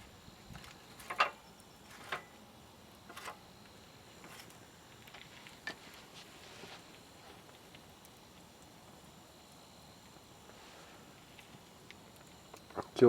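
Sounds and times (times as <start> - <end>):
campfire crackling: 0.0 - 13.0
fire pops and clicks: 0.0 - 13.0.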